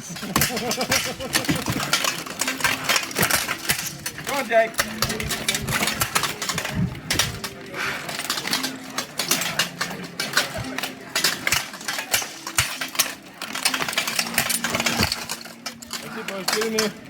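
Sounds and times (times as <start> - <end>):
steel weapons clashing: 0.0 - 17.0.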